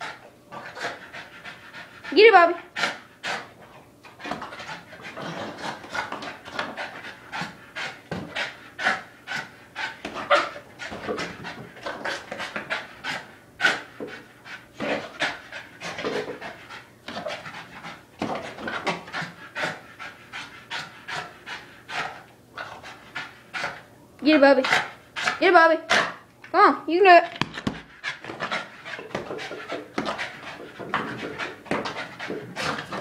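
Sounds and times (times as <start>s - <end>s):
small dog panting: 0.0s - 23.9s, 27.7s - 33.0s.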